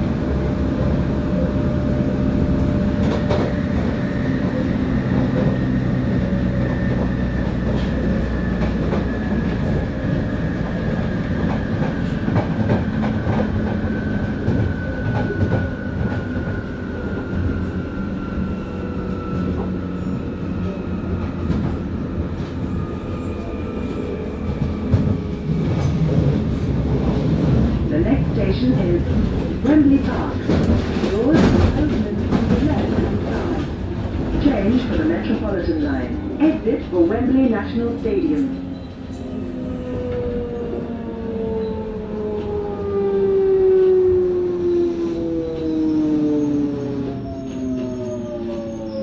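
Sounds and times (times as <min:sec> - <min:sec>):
rumble of wheels on rail: 0:00.0 - 0:49.0.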